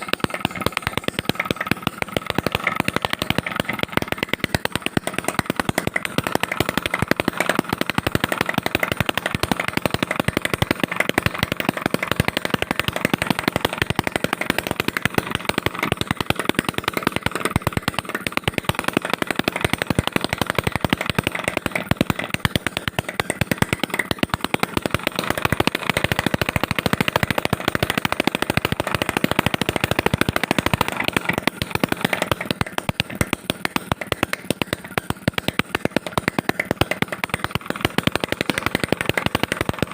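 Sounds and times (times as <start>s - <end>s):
two-stroke engine popping: 0.0s - 39.9s.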